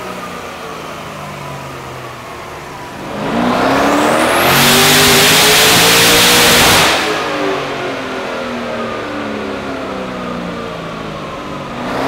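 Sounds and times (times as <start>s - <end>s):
car engine revving on dyno: 0.0s - 12.0s.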